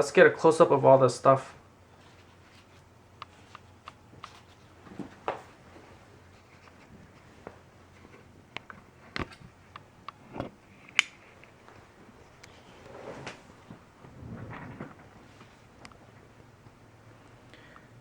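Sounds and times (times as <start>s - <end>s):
soft rustle: 1.9s - 9.6s, 10.2s - 17.5s.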